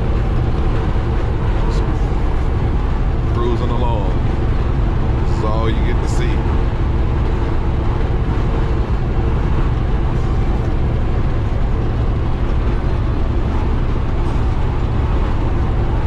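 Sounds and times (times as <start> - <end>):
diesel truck engine droning: 0.0 - 16.0
road and wind noise: 0.0 - 16.0.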